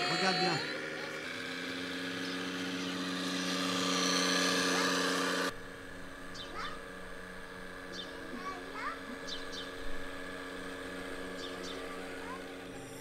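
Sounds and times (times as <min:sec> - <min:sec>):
model diesel engine running: 0:00.0 - 0:13.0
quiet engine hum: 0:00.0 - 0:13.0.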